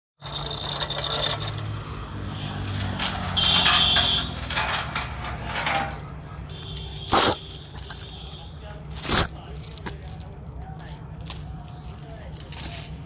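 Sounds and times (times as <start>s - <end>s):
iron chain clinking and rattling: 0.2s - 13.0s
tractor engine idling: 0.5s - 13.0s.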